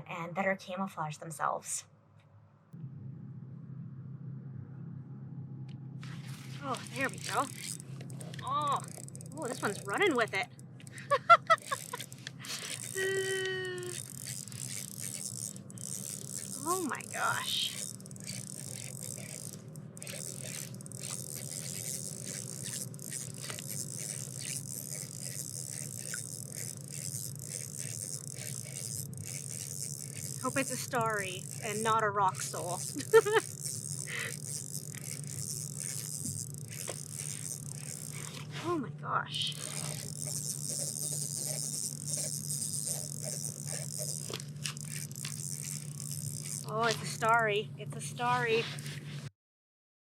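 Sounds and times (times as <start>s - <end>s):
fishing reel cranking: 6.2s - 38.7s, 39.3s - 49.3s.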